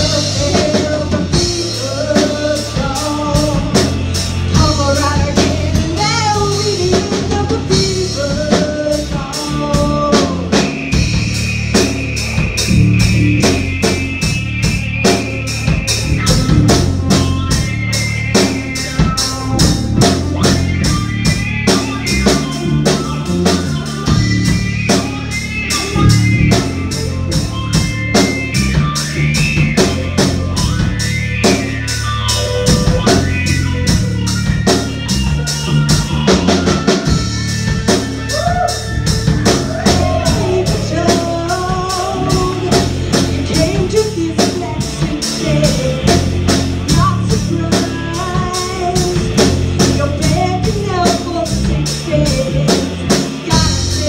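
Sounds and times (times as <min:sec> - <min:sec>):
drum kit: 0:00.0 - 0:54.0
rock band playing: 0:00.0 - 0:54.0.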